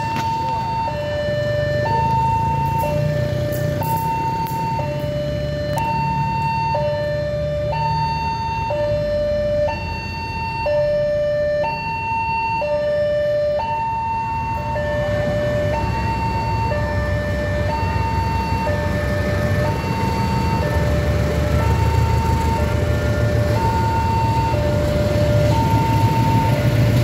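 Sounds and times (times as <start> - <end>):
two-tone crossing alarm: 0.0 - 27.0.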